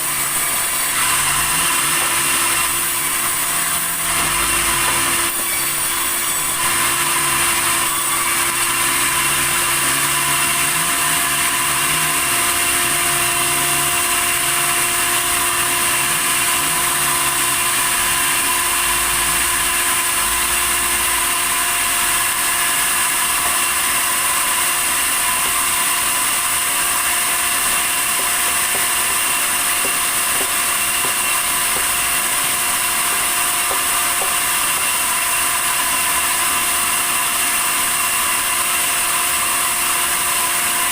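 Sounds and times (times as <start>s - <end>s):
saw whining through timber: 0.0s - 40.9s.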